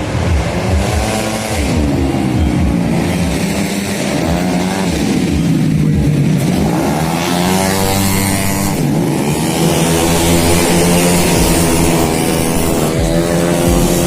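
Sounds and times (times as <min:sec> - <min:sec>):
scooter engines revving by: 0:00.0 - 0:14.0.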